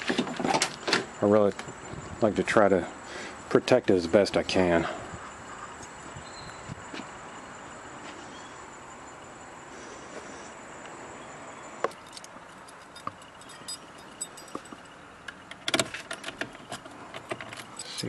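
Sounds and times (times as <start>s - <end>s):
outdoor background hiss: 0.0s - 18.0s
high insect-like tone: 0.6s - 18.0s.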